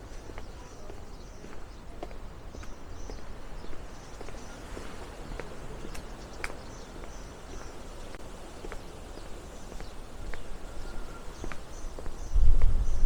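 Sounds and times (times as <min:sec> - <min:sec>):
birds chirping: 0:00.0 - 0:13.0
footsteps on paved street: 0:00.0 - 0:13.0.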